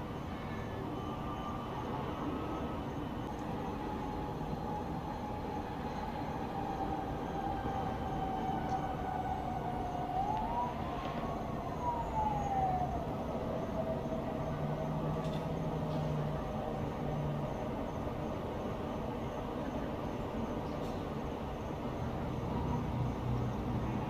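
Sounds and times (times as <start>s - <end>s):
distant siren wailing: 0.0s - 20.4s, 21.4s - 24.0s
hum of town traffic: 0.0s - 24.0s.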